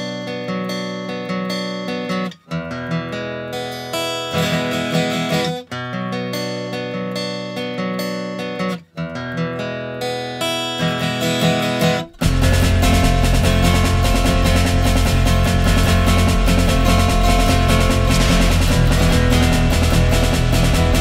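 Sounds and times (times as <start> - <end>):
acoustic guitar background music: 0.0 - 21.0.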